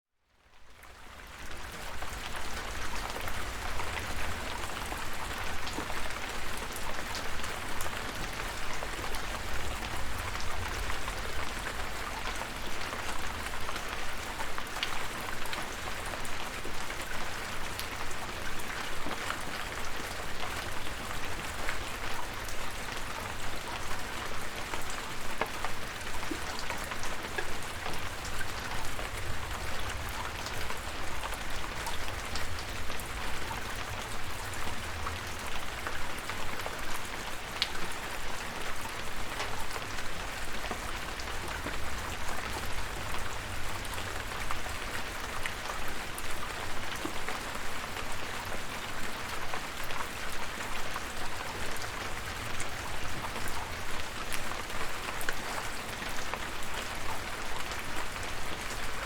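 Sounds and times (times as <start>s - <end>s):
rain falling: 0.3s - 59.0s
raindrops ticking on surface: 0.4s - 59.0s.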